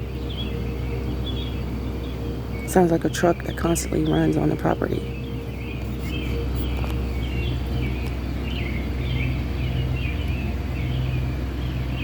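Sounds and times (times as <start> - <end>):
bird chirping: 0.0 - 12.0
machine humming: 0.0 - 12.0.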